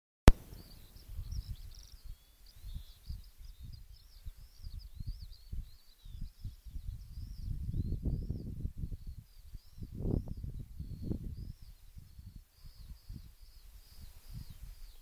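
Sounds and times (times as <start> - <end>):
birdsong chirps and trills: 0.3 - 15.0
wind rumbling on microphone: 0.3 - 15.0.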